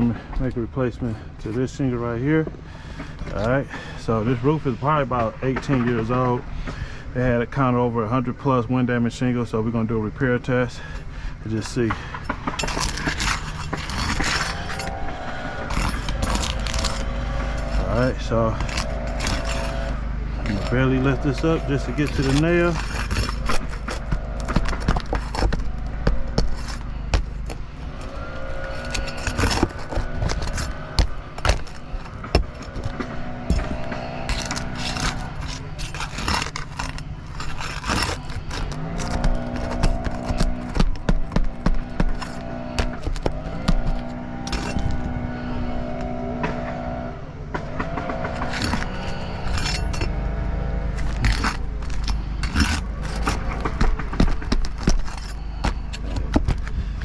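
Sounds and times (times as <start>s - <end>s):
tool clicking and scraping shingle: 0.0s - 7.8s, 8.5s - 57.0s
engine running: 0.0s - 57.0s
steady low rumble: 0.0s - 57.0s.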